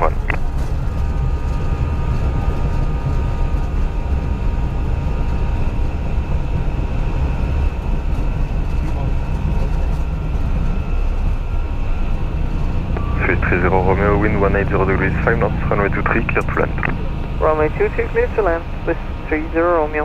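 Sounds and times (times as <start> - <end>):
faint engine whine: 0.0 - 20.0
jet engines rumbling: 0.0 - 20.0.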